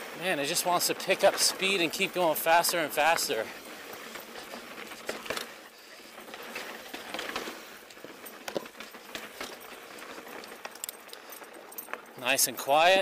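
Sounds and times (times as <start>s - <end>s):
bike tyres on dirt trail: 0.0s - 13.0s.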